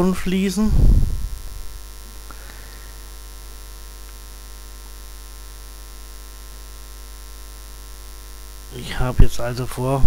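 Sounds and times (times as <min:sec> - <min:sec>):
electrical hum and buzz: 0:00.0 - 0:10.0.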